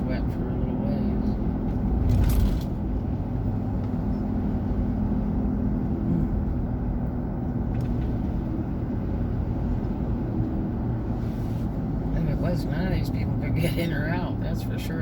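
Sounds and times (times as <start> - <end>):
car engine rumble: 0.0 - 15.0.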